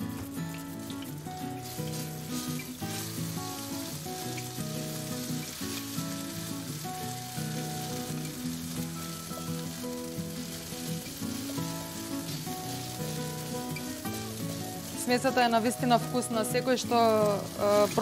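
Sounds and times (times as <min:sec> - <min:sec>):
background music: 0:00.0 - 0:18.0
burger mixture sizzling in oil: 0:00.0 - 0:18.0.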